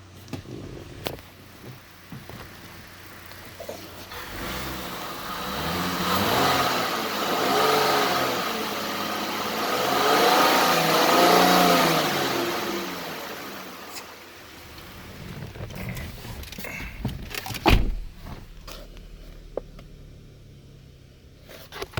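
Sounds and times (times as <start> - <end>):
car engine revving: 2.6 - 21.9.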